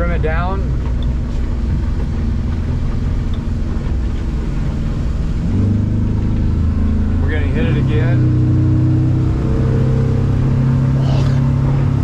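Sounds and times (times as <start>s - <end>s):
hull and water noise: 0.0s - 12.0s
outboard motor running: 0.0s - 12.0s.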